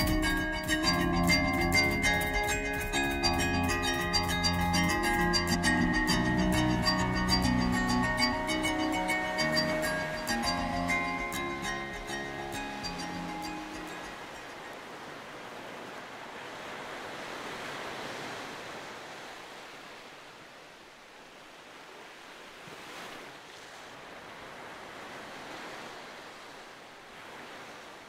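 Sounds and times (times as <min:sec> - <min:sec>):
ocean waves rushing: 0:00.0 - 0:28.0.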